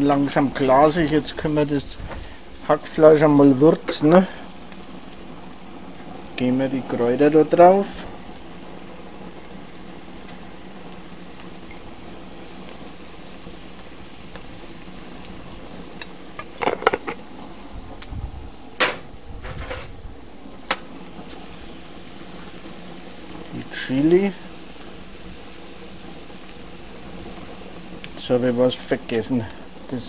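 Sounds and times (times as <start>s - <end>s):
meat and onions sizzling: 0.0s - 30.0s.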